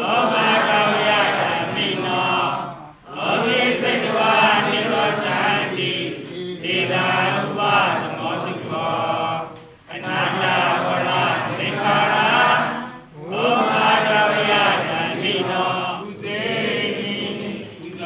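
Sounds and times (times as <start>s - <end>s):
voices chanting: 0.0s - 18.0s.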